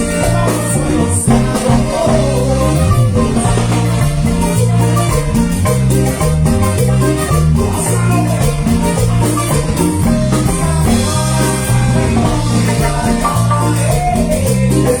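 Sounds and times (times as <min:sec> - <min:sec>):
bass line: 0:00.0 - 0:15.0
marimba melody: 0:00.0 - 0:15.0
regular beat: 0:00.0 - 0:15.0.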